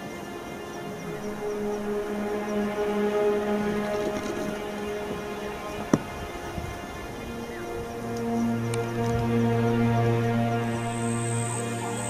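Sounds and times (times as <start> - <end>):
music of long held notes: 0.0 - 12.0
steady low drone: 0.0 - 12.0.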